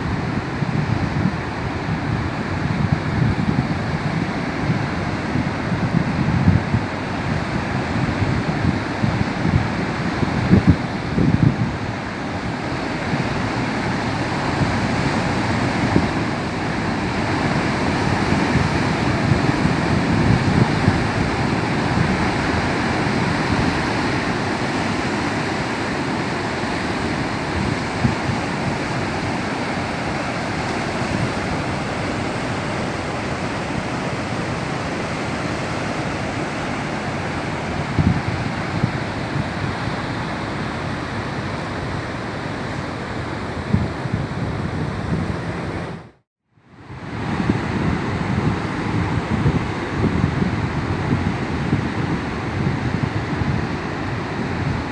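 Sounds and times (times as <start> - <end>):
wind buffeting microphone: 0.0 - 46.2, 46.8 - 54.9
rough sea surf: 0.0 - 54.9.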